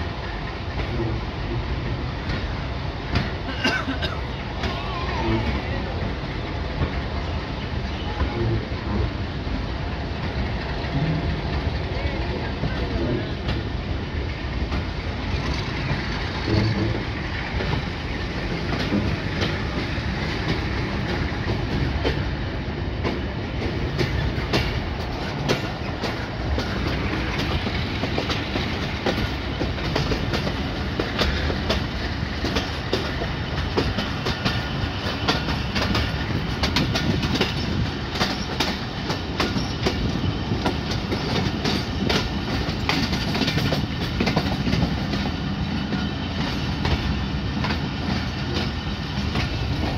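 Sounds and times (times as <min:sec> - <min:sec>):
rail-joint clicks: 0:00.0 - 0:49.9
train wheels rumbling on track: 0:00.0 - 0:49.9.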